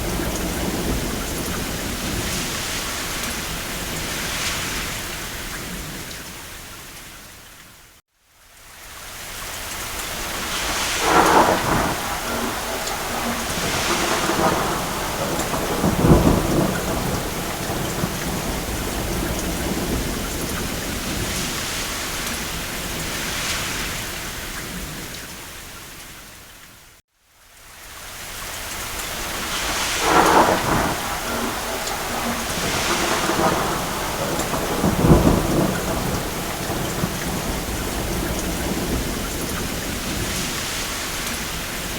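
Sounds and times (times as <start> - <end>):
thunder rumbling: 0.0 - 6.2, 10.0 - 25.2, 28.9 - 41.9
heavy rain: 0.0 - 41.9.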